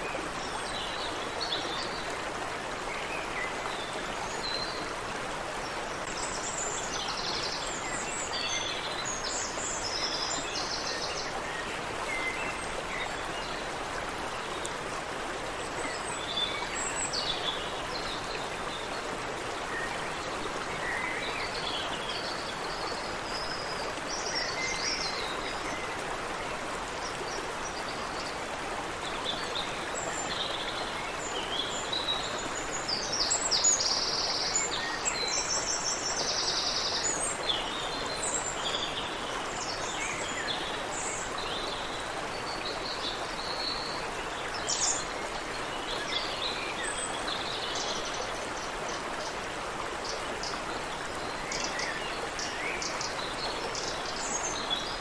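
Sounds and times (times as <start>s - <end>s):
creek water running: 0.0s - 55.0s.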